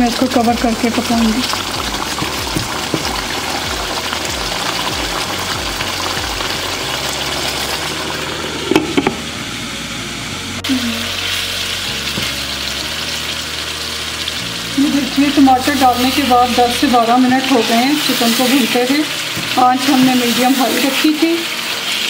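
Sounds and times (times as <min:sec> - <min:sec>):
curry bubbling and sizzling: 0:00.0 - 0:09.3, 0:10.7 - 0:22.0.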